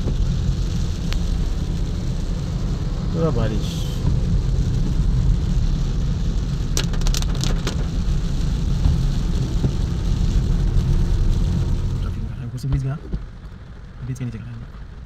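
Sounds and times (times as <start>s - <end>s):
car engine and tyres on wet road: 0.0s - 15.0s
rain drumming on car roof: 0.0s - 15.0s.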